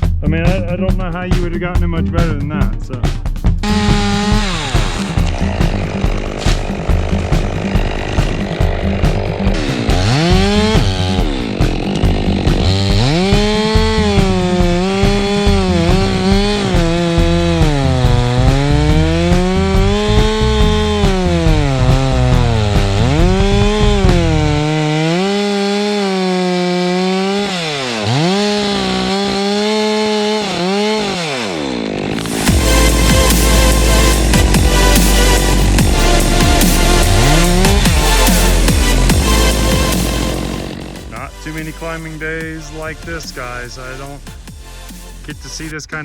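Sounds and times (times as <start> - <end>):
chainsaw cutting wood: 3.6 - 45.7.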